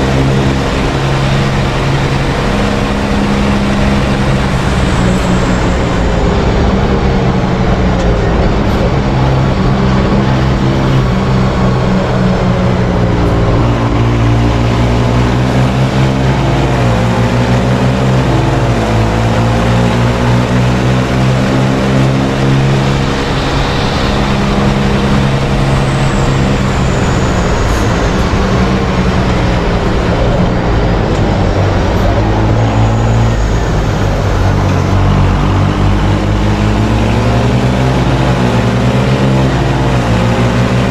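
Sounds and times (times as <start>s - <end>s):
racing truck engine under load: 0.0s - 40.9s
road and track noise: 0.0s - 40.9s.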